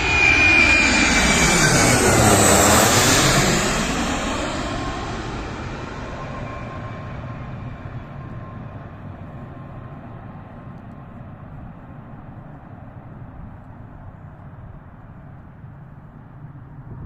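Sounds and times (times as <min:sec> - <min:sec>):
jet airliner engine noise: 0:00.0 - 0:17.0.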